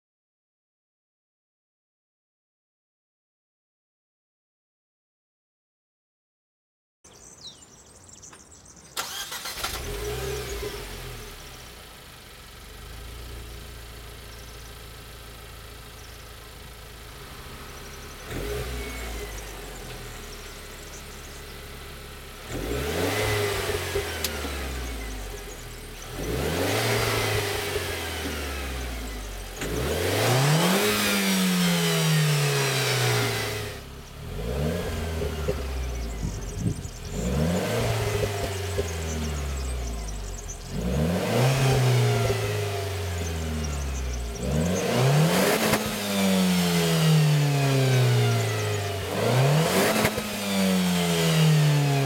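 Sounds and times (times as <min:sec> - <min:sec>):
car engine starting and revving: 0:09.0 - 0:52.0.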